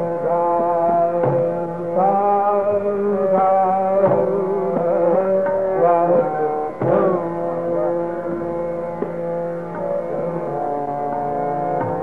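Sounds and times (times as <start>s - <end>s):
tanpura drone: 0.0s - 12.0s
tabla stroke: 0.2s - 12.0s.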